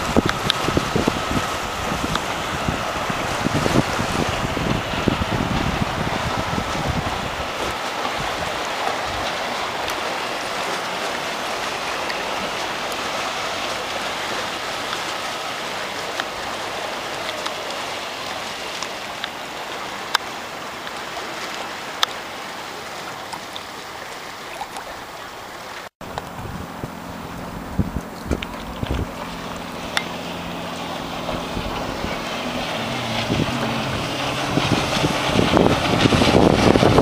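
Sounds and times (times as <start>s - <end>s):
lake water lapping: 0.0s - 37.0s.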